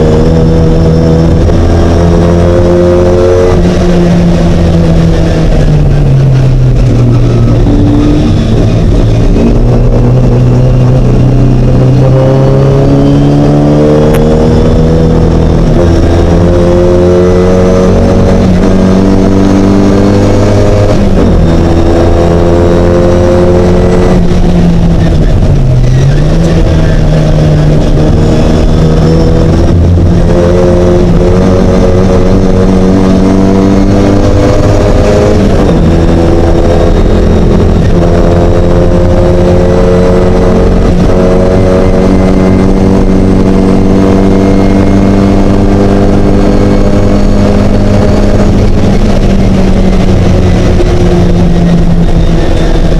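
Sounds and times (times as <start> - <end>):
mini race car engine revving: 0.0 - 5.7, 6.7 - 52.9.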